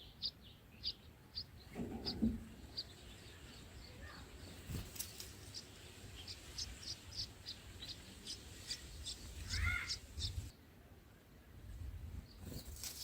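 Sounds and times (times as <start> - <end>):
small birds chirping: 0.0 - 10.6, 11.2 - 13.0.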